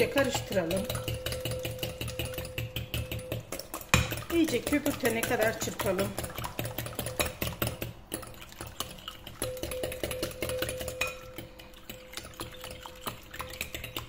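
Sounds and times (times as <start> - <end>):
whisk clicking against glass bowl: 0.0 - 14.0.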